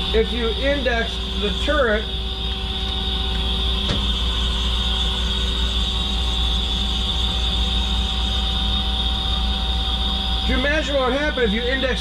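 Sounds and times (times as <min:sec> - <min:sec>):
lathe machine humming: 0:00.0 - 0:12.0.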